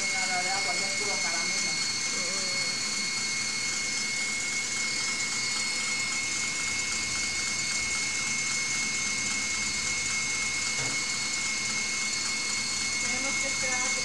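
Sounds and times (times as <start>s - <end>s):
electric mixer whirring: 0.0s - 14.0s.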